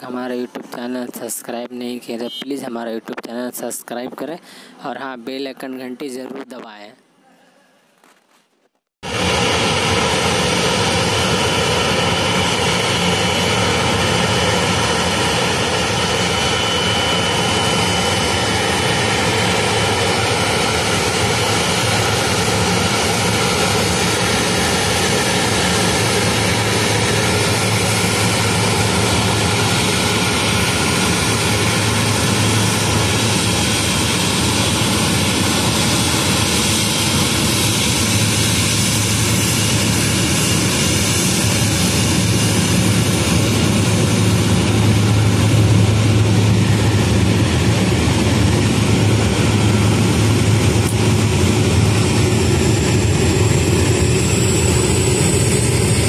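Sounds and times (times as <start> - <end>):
jet engines running: 9.0 - 56.0.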